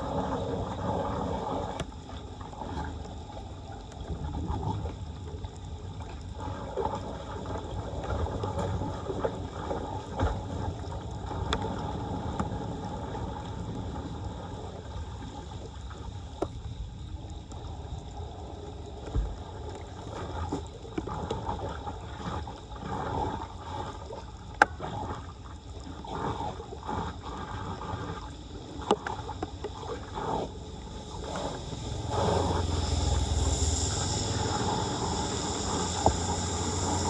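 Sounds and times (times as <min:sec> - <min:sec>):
floodwater gurgling and flowing: 0:00.0 - 0:37.0.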